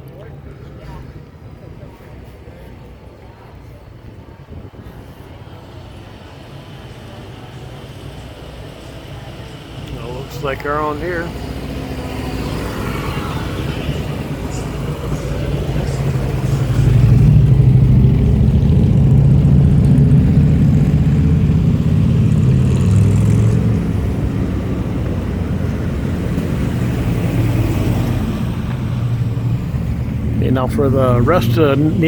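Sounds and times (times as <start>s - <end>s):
vehicle engine rumble: 0.0s - 32.0s.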